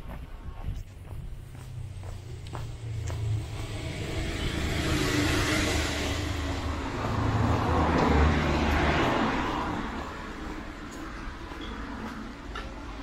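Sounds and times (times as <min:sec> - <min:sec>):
low engine hum: 0:00.1 - 0:13.0
cars passing close by: 0:00.9 - 0:13.0.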